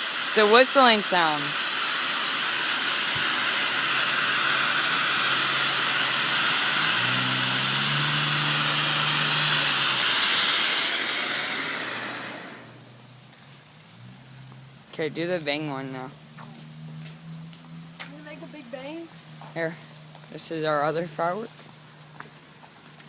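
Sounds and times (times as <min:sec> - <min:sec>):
firework fountain hissing: 0:00.0 - 0:17.2, 0:17.9 - 0:22.6.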